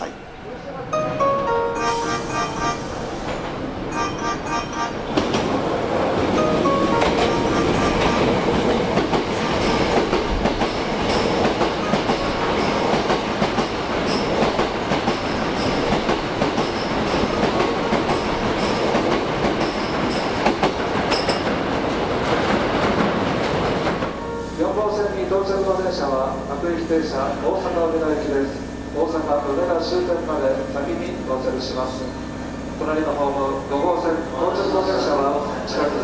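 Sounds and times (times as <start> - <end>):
train rolling noise: 0.0 - 36.0.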